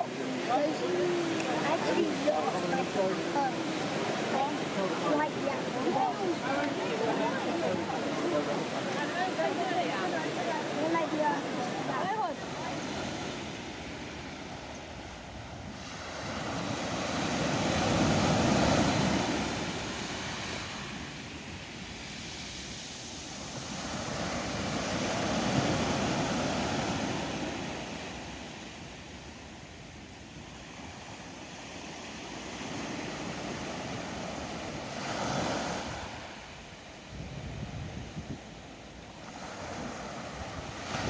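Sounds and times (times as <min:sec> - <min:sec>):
ocean surf washing ashore: 0:00.0 - 0:41.0.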